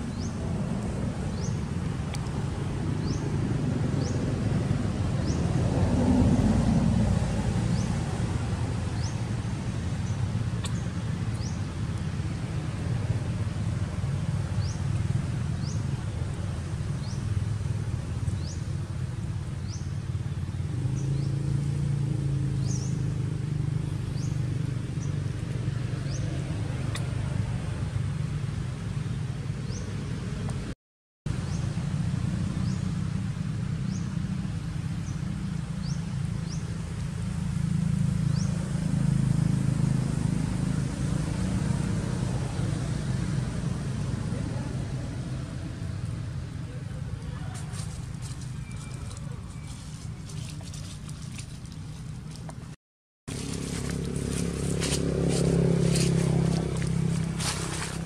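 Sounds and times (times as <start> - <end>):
low rumble of distant traffic: 0.0 - 58.0.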